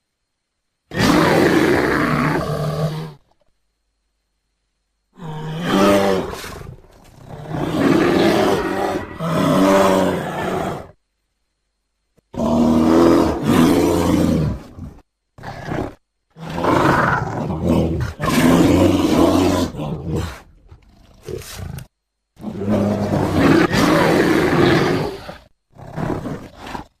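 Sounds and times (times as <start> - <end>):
bear roaring: 0.9 - 3.3, 5.2 - 11.0, 12.3 - 27.0.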